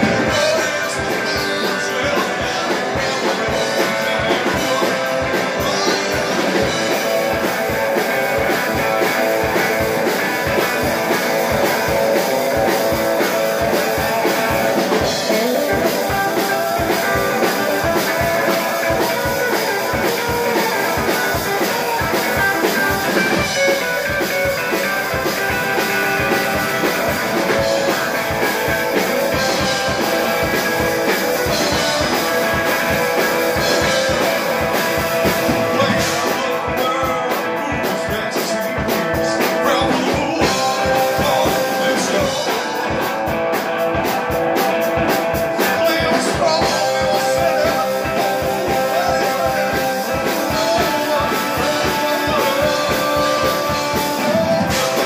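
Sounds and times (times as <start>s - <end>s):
drum kit fast beat: 0.0s - 55.0s
electric guitar: 0.0s - 55.0s.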